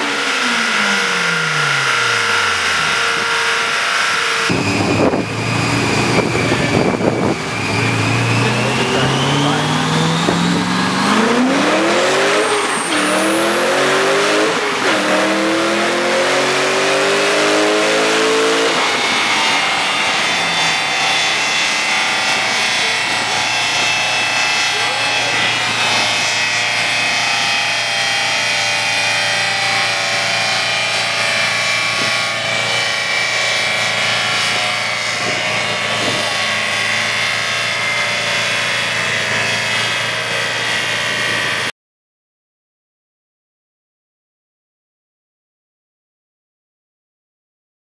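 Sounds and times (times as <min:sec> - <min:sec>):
car engine winding down: 0:00.0 - 0:41.7
engine revving on a dyno: 0:00.0 - 0:41.7.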